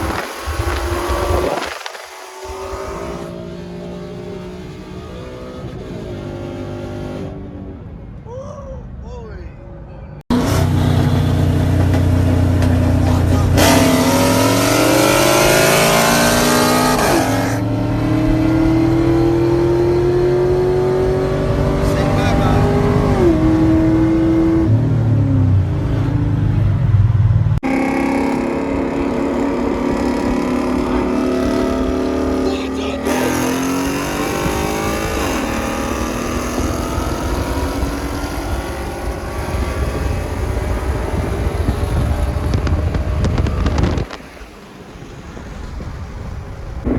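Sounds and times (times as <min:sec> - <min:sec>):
car engine at full throttle: 0:00.0 - 0:08.2, 0:10.3 - 0:46.9.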